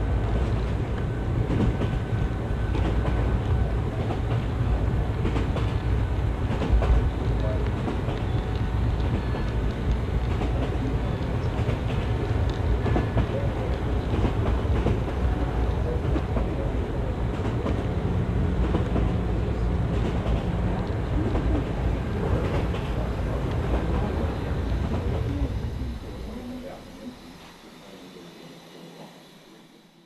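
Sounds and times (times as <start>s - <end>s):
rail joint clicks: 0.1s - 28.2s.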